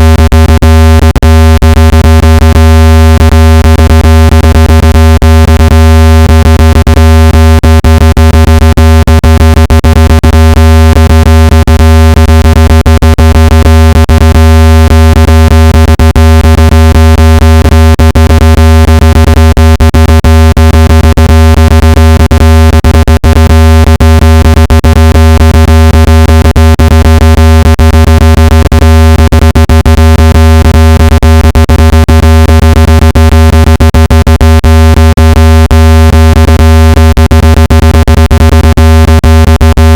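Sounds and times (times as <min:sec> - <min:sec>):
loud low buzzing tone: 0:00.0 - 0:39.9.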